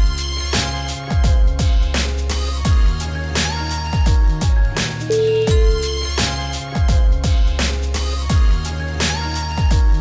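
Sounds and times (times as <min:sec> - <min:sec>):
electronic music with bass drum: 0:00.0 - 0:10.0.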